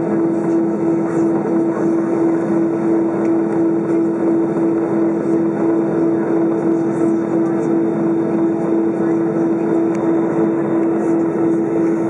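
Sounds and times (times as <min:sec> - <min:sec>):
constant hum: 0:00.0 - 0:12.0
jet engine cabin drone: 0:00.0 - 0:12.0.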